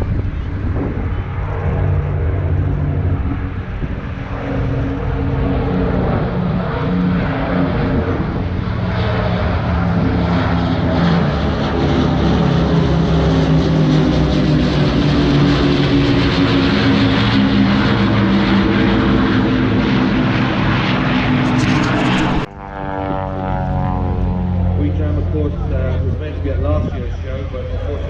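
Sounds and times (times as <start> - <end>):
propeller aircraft engines droning: 0.0 - 28.0.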